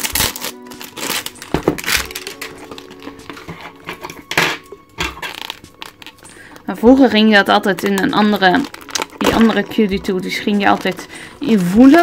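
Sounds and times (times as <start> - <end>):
plastic shrink-wrap crinkling: 0.0 - 12.0.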